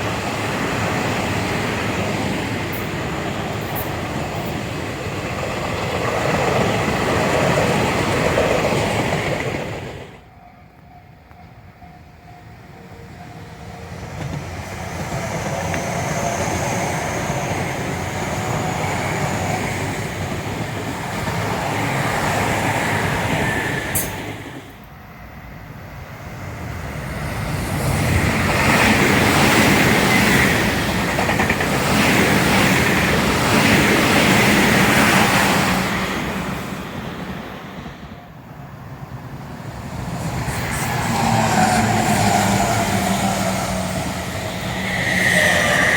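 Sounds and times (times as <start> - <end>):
electric trains passing: 0.0 - 45.9.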